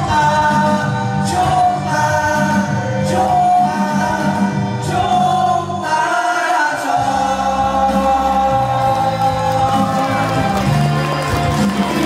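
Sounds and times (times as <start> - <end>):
men singing together: 0.0 - 10.8
pop backing track with bass: 0.0 - 12.0.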